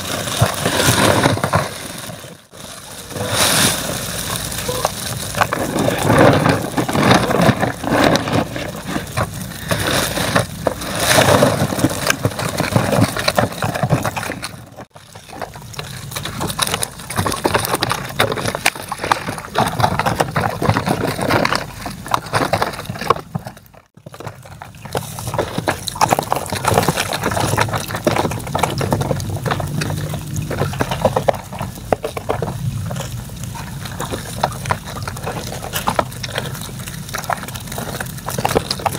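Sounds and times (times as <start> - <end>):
wet crackling of shrimp and net: 0.0 - 38.9.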